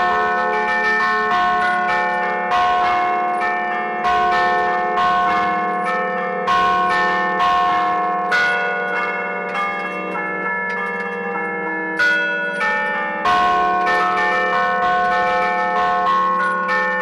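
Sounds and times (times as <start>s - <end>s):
church bells struck by hammers: 0.0s - 17.0s.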